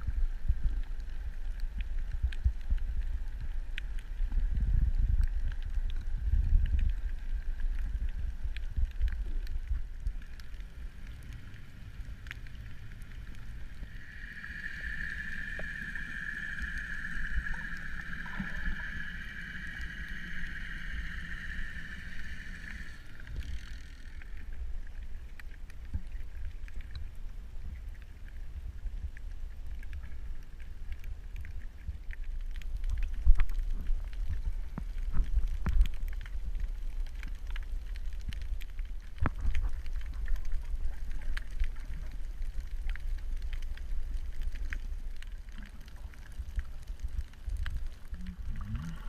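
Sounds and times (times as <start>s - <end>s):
clicks and crackles: 0.0s - 49.0s
low underwater rumble: 0.0s - 49.0s.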